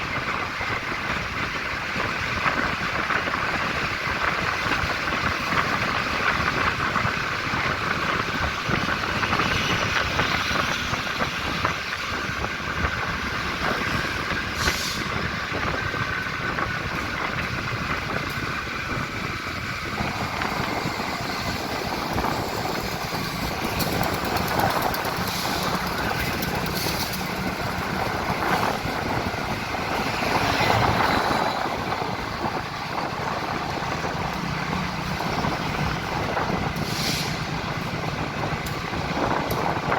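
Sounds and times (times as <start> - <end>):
diesel locomotive engines running: 0.0 - 39.9.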